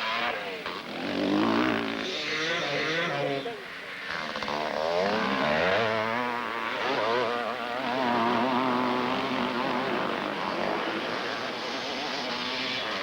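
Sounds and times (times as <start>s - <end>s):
motocross motorcycles revving: 0.0s - 3.4s, 4.1s - 13.0s.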